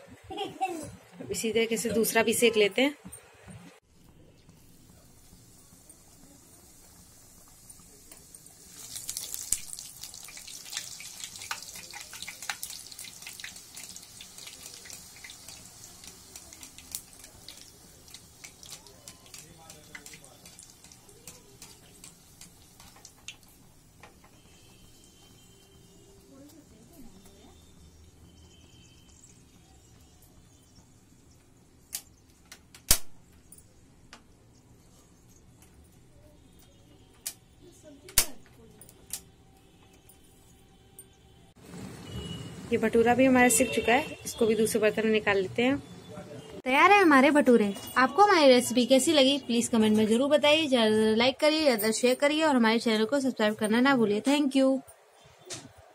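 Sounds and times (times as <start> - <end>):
dough deep-frying in oil: 3.8 - 38.4, 39.1 - 53.8.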